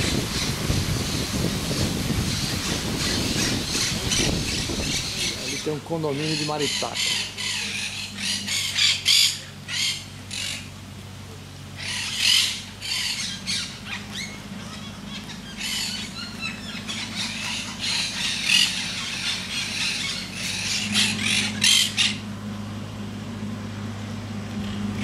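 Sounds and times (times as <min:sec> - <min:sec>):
parakeets squawking: 0:00.0 - 0:10.7, 0:11.7 - 0:22.3
low steady hum: 0:00.0 - 0:25.0.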